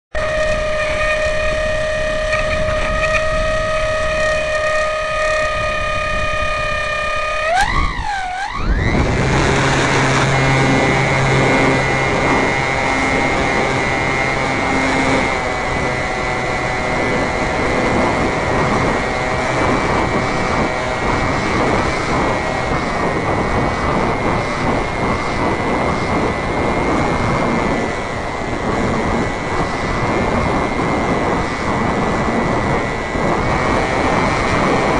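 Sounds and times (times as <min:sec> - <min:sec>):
model airplane motor whine: 0:00.1 - 0:34.9
propeller and wind rushing: 0:00.1 - 0:34.9.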